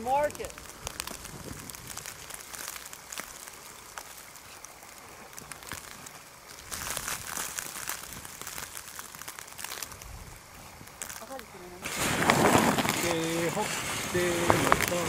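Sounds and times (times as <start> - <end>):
crackling ticks: 0.0 - 15.0
low buffeting rumble: 0.0 - 15.0
wind hissing on microphone: 0.0 - 15.0.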